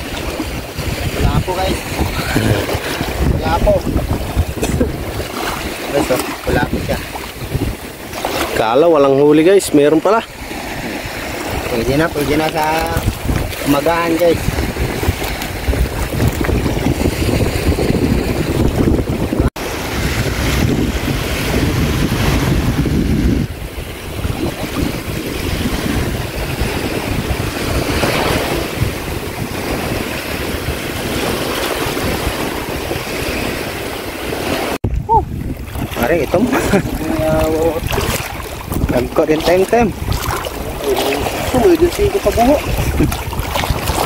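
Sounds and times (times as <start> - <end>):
seawater washing across reef: 0.0 - 44.0
wind buffeting microphone: 0.0 - 44.0.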